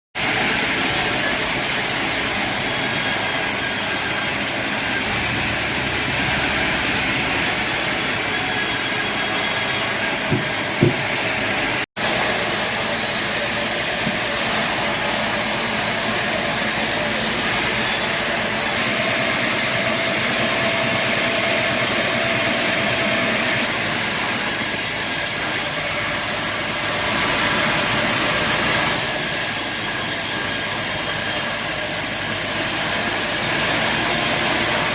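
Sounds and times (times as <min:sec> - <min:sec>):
sawmill machinery running: 0:00.2 - 0:34.9.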